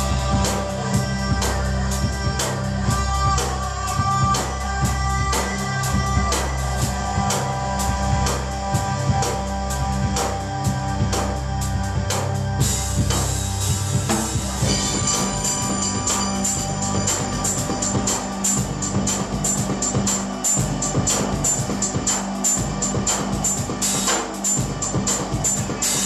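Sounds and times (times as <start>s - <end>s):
band playing live: 0.0s - 26.0s
drum kit beat: 0.0s - 26.0s.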